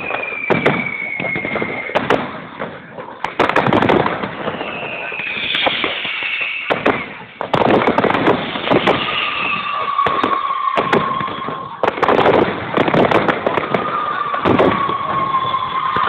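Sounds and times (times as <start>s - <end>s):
fireworks bangs and crackles: 0.0s - 16.0s
high firework whistle: 0.0s - 16.0s.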